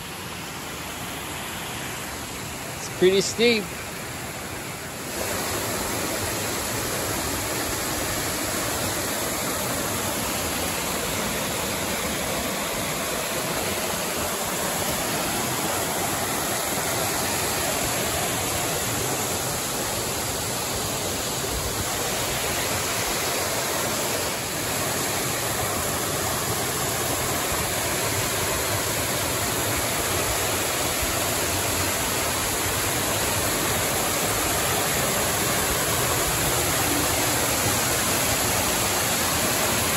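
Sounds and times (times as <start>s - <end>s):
waterfall rushing over boulders: 0.0s - 39.9s.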